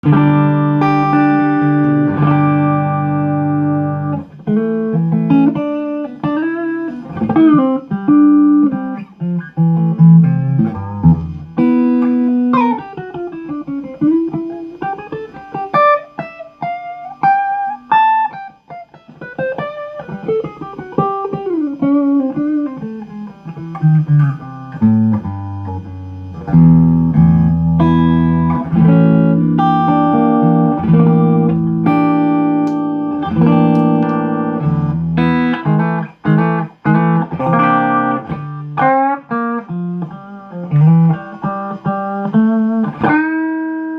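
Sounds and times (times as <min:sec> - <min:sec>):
electric guitar playing: 0:00.0 - 0:43.9.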